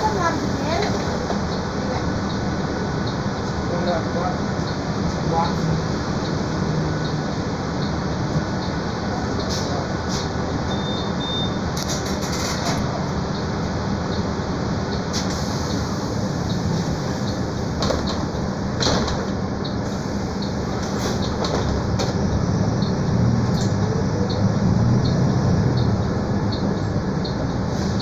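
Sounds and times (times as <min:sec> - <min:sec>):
bus engine hum: 0:00.0 - 0:28.0
road noise: 0:00.0 - 0:28.0.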